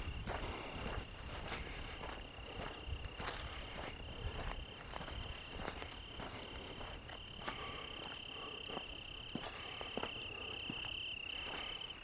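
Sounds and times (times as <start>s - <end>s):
cricket trilling: 0.0s - 12.0s
footsteps through dry vegetation: 0.0s - 12.0s.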